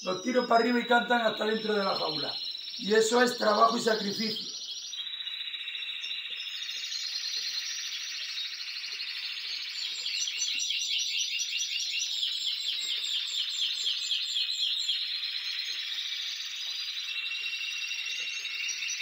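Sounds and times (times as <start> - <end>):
bird singing falling notes: 0.0 - 19.0
chorus of canaries trilling: 0.0 - 19.0.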